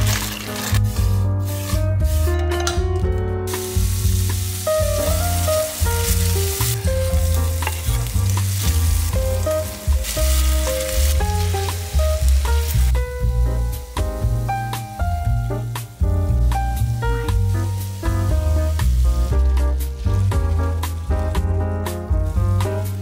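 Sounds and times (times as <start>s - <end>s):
meat and onion sizzling: 0.0s - 23.0s
music with heavy bass: 0.0s - 23.0s.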